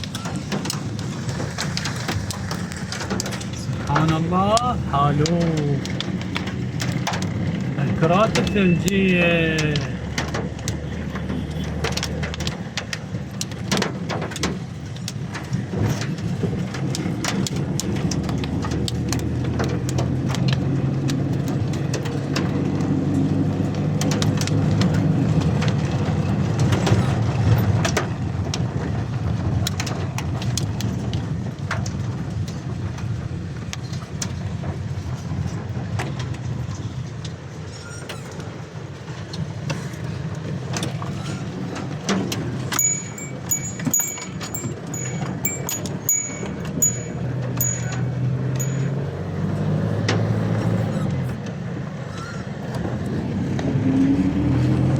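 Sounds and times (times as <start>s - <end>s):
hailstones clicking on hard surface: 0.0s - 48.8s.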